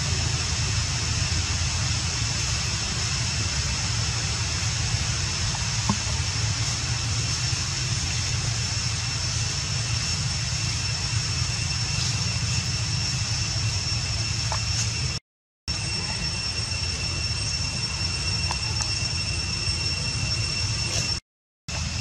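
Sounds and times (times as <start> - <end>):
low rumbling background noise: 0.0 - 22.0
thin high whine: 0.0 - 22.0.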